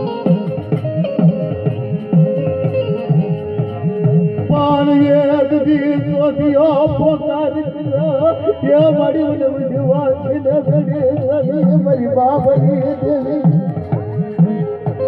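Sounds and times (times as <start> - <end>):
plucked strings: 0.0 - 15.0
tabla rhythm: 0.0 - 15.0.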